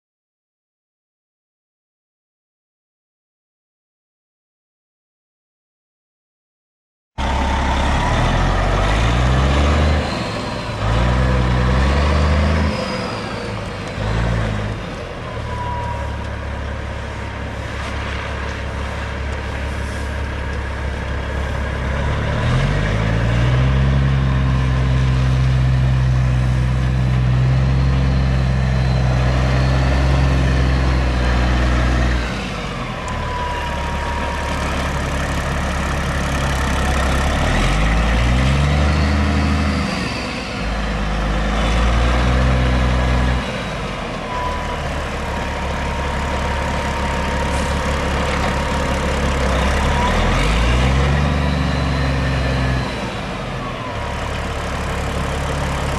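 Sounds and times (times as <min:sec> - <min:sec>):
diesel truck engine revving and idling: 0:07.2 - 0:55.9.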